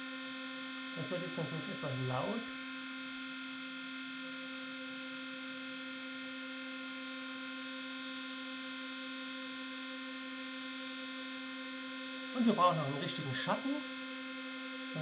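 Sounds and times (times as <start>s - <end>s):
spindle motor whine: 0.0s - 15.0s.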